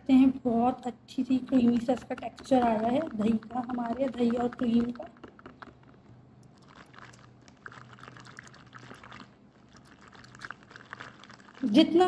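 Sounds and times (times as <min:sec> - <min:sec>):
whisk beating wet slapping: 0:01.3 - 0:12.0.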